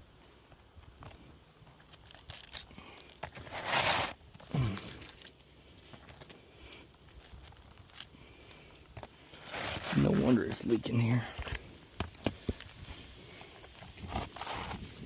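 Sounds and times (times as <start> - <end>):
shingles tearing and scraping: 1.0 - 15.0.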